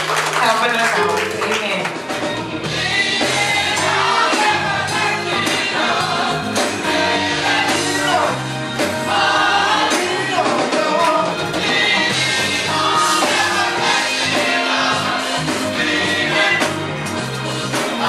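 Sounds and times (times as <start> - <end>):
instrumental accompaniment: 0.1 - 18.0
gospel choir singing: 2.0 - 18.0.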